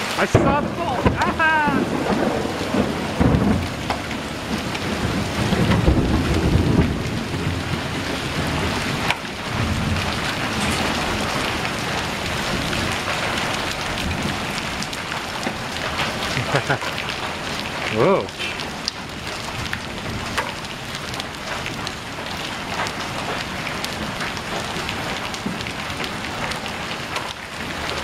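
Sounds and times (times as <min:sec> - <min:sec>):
heavy rain and hail: 0:00.0 - 0:28.0
thunder rumbling: 0:00.0 - 0:28.0.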